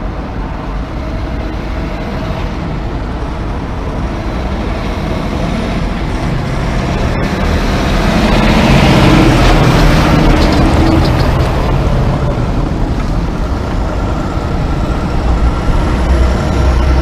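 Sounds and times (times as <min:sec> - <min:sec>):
truck diesel engine passing: 0:00.0 - 0:17.0.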